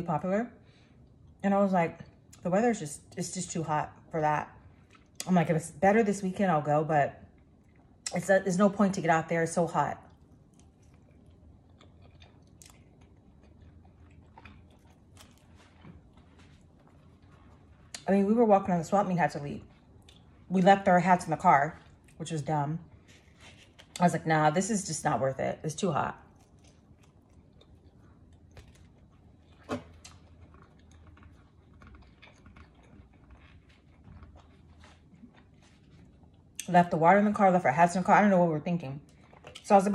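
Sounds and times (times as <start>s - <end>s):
chewing pizza: 2.0s - 6.4s, 7.1s - 37.0s, 39.0s - 39.9s.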